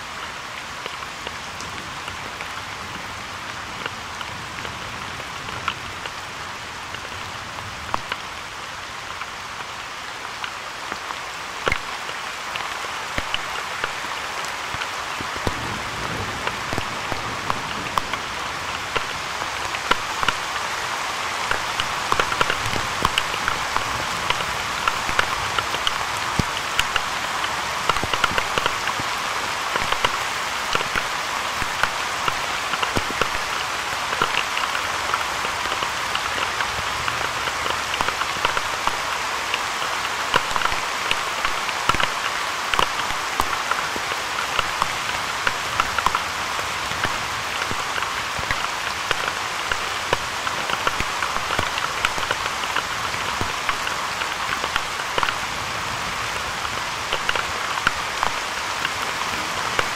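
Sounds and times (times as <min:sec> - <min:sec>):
raindrops ticking on hard surface: 0:00.4 - 0:59.9.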